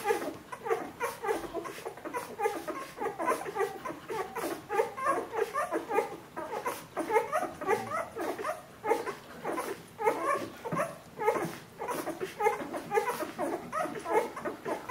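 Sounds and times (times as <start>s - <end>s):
puppies squeaking and whimpering: 0.0s - 14.9s.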